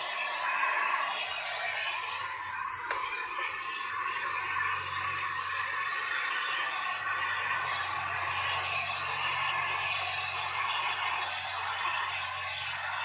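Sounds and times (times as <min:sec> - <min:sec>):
heat gun fan hissing: 0:00.0 - 0:13.0.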